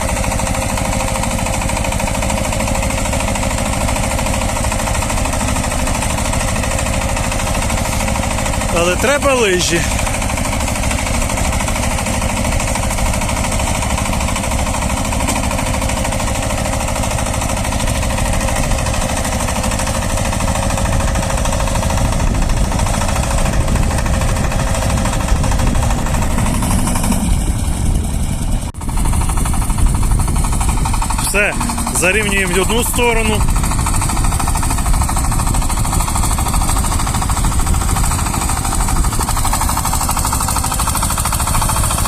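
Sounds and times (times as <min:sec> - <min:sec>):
diesel engine running under load: 0:00.0 - 0:42.0
rotary tiller in soil: 0:00.0 - 0:42.0.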